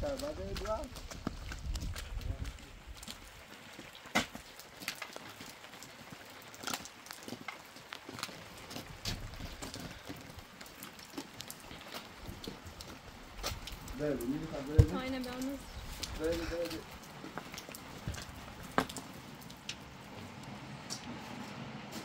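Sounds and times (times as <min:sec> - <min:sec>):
footsteps on wet ground: 0:00.0 - 0:22.0
light rain patter: 0:00.0 - 0:22.0.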